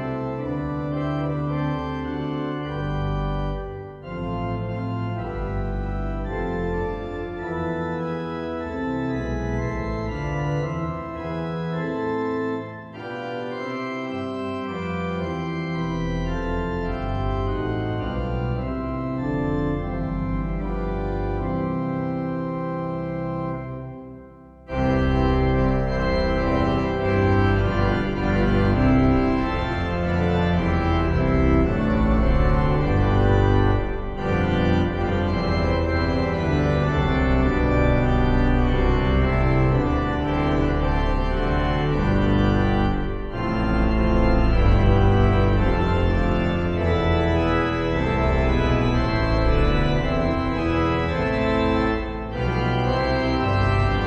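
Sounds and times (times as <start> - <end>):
organ playing hymn chords: 0.0 - 54.0.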